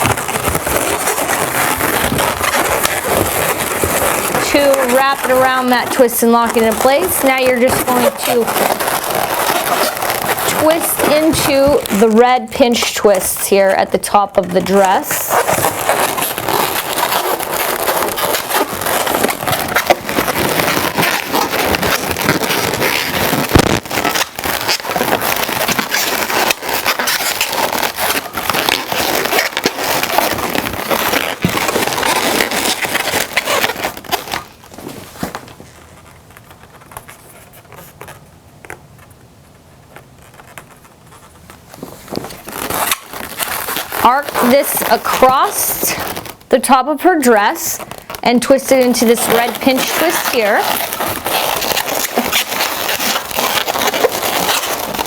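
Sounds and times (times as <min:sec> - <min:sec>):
balloons squeaking and crackling: 0:00.0 - 0:55.0.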